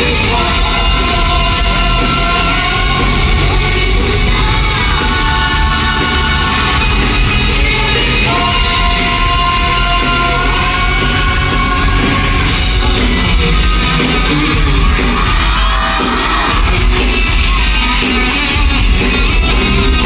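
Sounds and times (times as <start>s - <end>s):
live rock band with singer: 0.0s - 20.0s.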